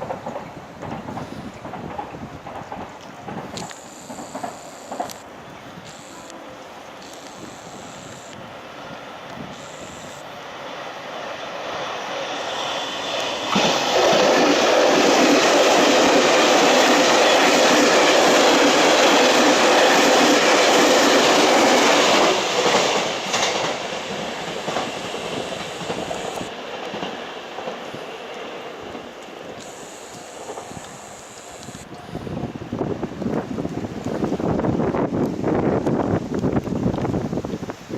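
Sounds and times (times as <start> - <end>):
electric train passing at speed: 0.0 - 37.3.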